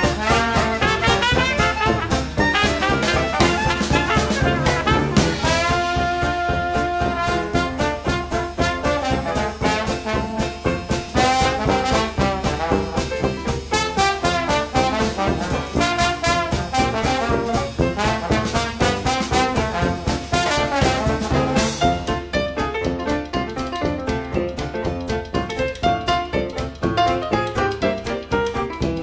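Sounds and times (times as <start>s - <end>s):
jazzy brass swing music: 0.0s - 29.0s.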